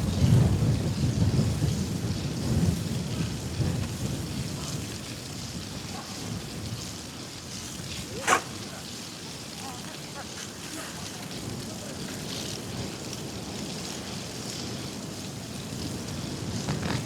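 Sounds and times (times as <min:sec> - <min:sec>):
bicycle tyres hissing on wet street: 0:00.0 - 0:17.0
wind buffeting microphone: 0:00.0 - 0:17.0.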